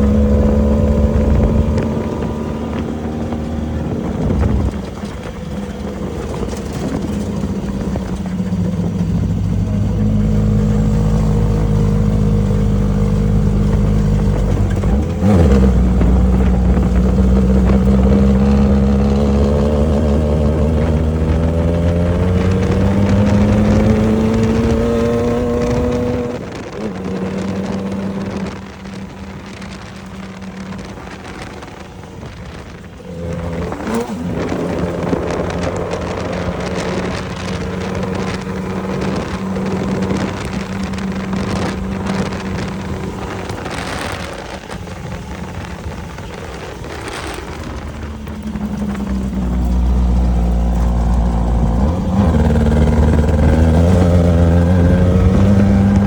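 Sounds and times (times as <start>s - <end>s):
knocks and rattles over rough ground: 0.0s - 56.0s
race vehicle engine revving: 0.0s - 56.0s.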